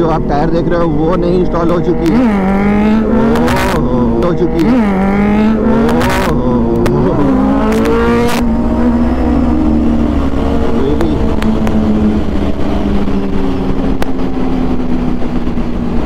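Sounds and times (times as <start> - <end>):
motorcycle engines running: 0.0 - 16.0
rushing wind noise: 0.0 - 16.0.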